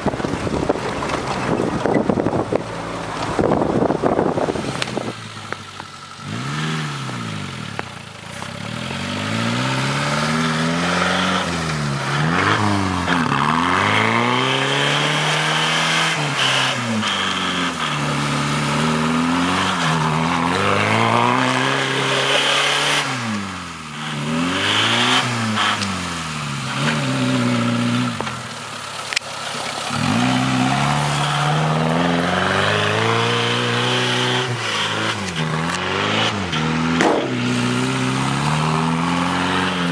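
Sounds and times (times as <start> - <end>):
car engine revving: 0.0 - 39.9
wheels spinning through snow: 0.0 - 39.9.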